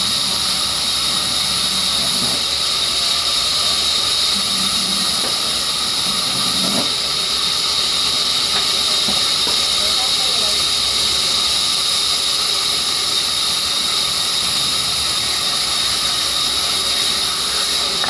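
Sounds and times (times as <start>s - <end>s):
band saw cutting wood: 0.0s - 18.0s.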